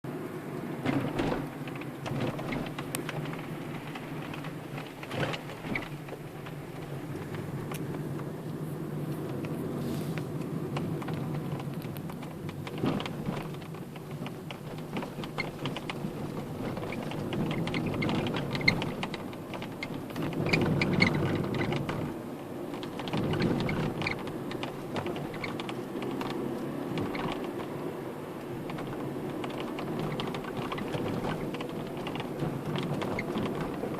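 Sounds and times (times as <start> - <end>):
low cabin rumble: 0.1 - 33.9
small clicks and crackles: 0.2 - 33.9
dashboard creaking: 0.8 - 33.9.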